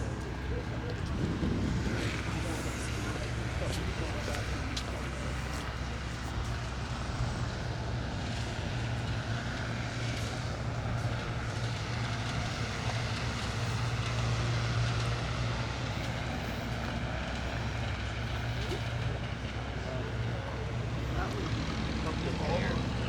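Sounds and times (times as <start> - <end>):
low engine drone: 0.0 - 23.0
outdoor background hum: 0.0 - 23.0.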